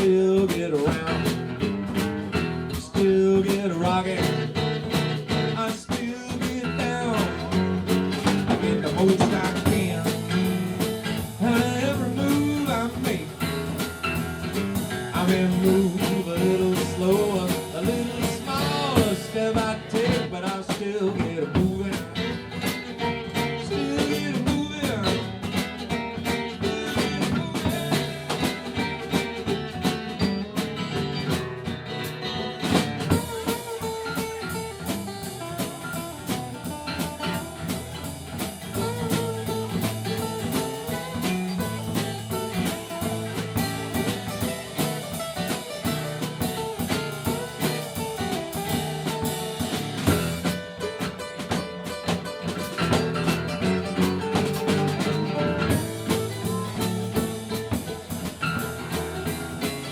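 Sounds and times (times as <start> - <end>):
country band playing: 0.0 - 59.9
guitar: 0.0 - 59.9
steady drum beat: 0.0 - 59.9.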